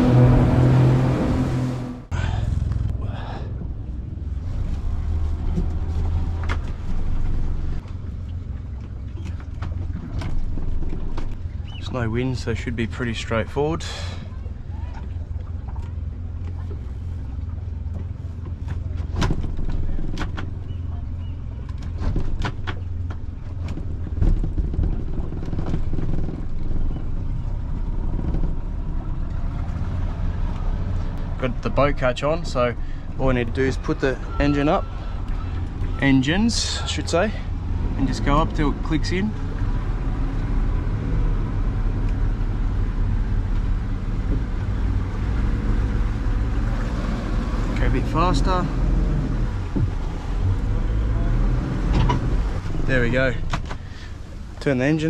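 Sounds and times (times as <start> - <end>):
outboard engines rumbling: 0.0 - 55.0.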